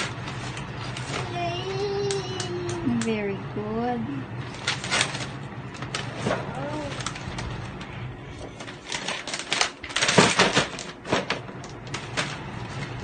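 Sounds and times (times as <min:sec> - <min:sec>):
wrapping paper tearing and crumpling: 0:00.0 - 0:02.8, 0:04.4 - 0:13.0.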